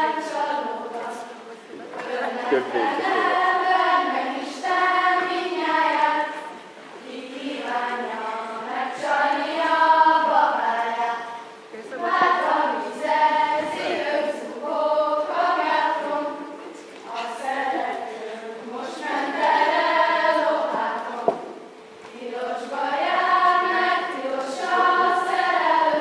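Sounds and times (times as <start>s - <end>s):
girls singing unaccompanied: 0.0s - 26.0s.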